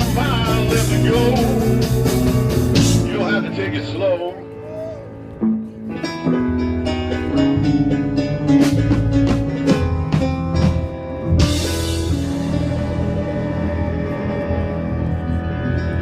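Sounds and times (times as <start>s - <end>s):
live blues band playing: 0.0s - 16.0s.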